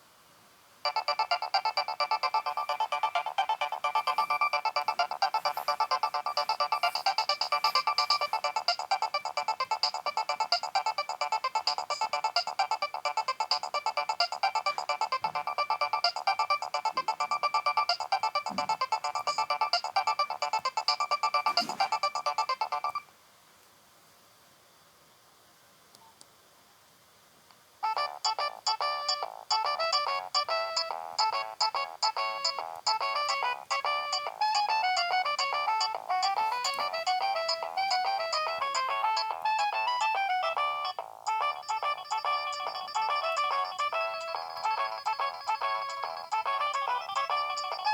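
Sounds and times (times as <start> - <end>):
mobile phone ringtone: 0.8 - 23.0, 27.8 - 47.9.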